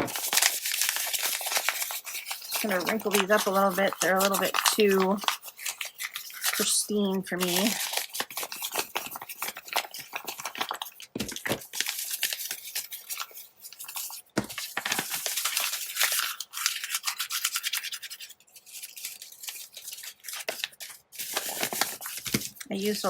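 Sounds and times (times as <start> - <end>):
paper being crumpled: 0.0 - 23.0.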